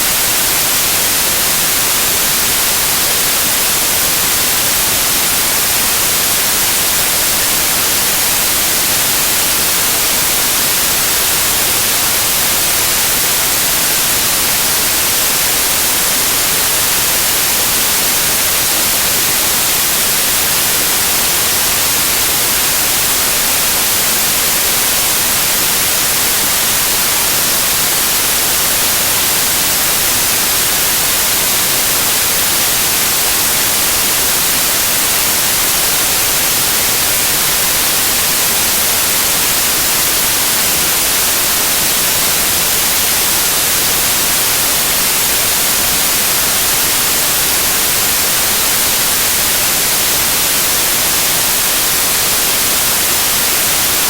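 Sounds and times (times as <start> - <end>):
loud white noise hiss: 0.0 - 54.0.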